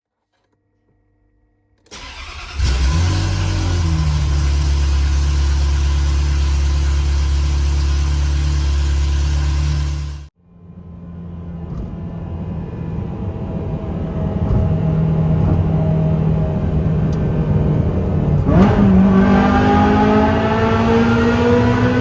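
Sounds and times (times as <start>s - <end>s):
car engine and exhaust: 1.9s - 22.0s.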